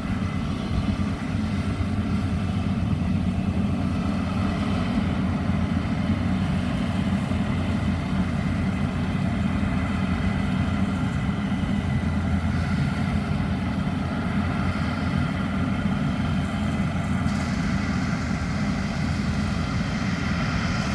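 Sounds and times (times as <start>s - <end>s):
combine harvester engine drone: 0.0s - 20.9s.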